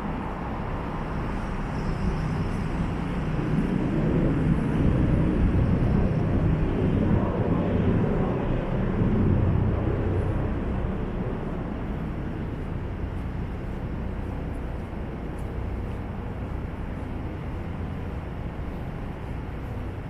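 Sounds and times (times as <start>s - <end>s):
steady traffic hum: 0.0s - 20.0s.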